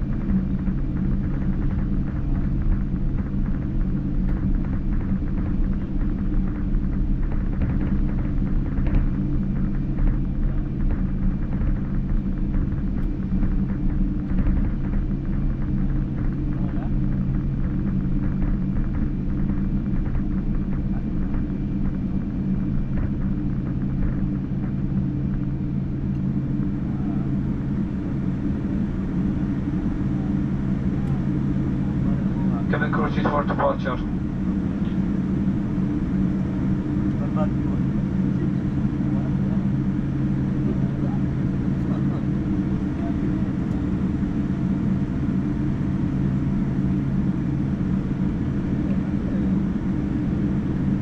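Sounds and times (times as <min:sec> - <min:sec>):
aircraft cabin rumble and hum: 0:00.0 - 0:51.0.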